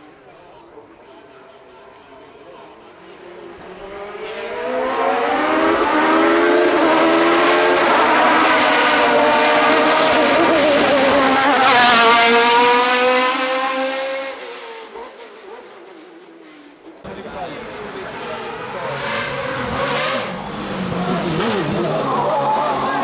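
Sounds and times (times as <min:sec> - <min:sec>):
race car engine at high revs: 0:03.0 - 0:23.0.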